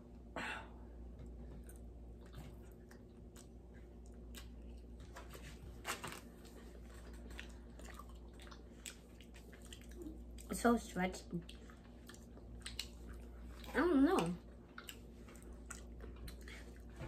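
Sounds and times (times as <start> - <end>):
faint chewing: 1.2 - 17.0.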